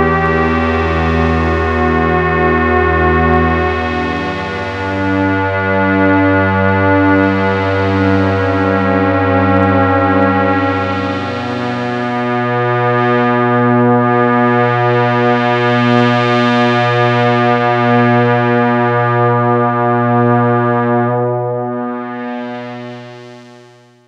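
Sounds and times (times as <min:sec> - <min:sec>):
synthesizer sustained chord: 0:00.0 - 0:23.8.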